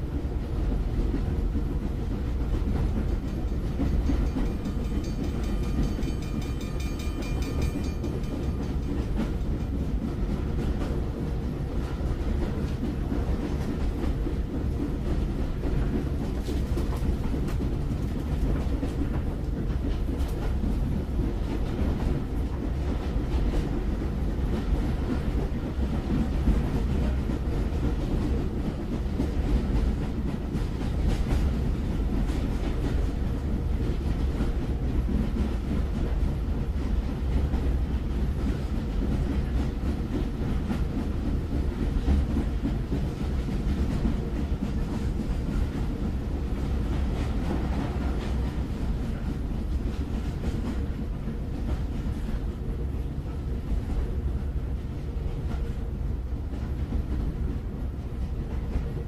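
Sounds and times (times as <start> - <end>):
train rolling on rails: 0.0 - 59.0.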